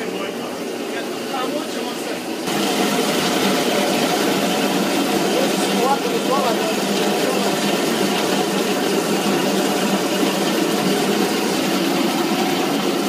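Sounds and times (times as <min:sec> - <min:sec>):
grape crusher motor hum: 0:00.0 - 0:13.0
juice falling into vat: 0:02.4 - 0:13.0.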